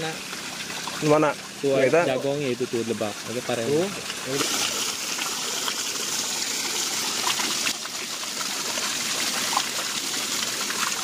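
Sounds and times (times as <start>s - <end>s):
water splashing onto boards: 0.0s - 2.1s, 2.8s - 11.0s
water gushing from a pipe: 0.0s - 11.0s.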